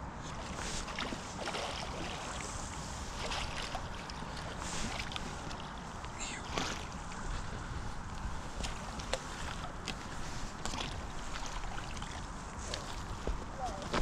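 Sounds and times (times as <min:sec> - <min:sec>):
water splashing and sloshing: 0:00.0 - 0:14.0
wind rumble on microphone: 0:00.0 - 0:14.0.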